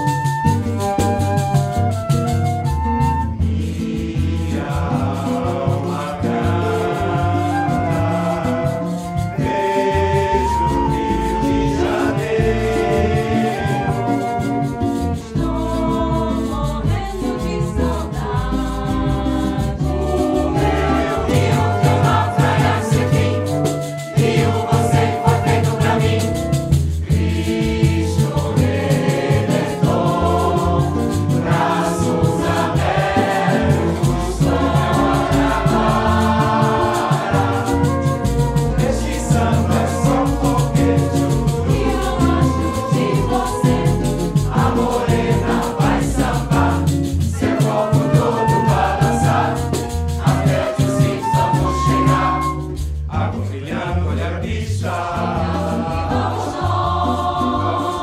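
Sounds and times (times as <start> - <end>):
flute: 0.0 - 53.4
cello: 0.0 - 58.0
double bass: 0.0 - 58.0
mixed choir singing samba: 0.0 - 58.0.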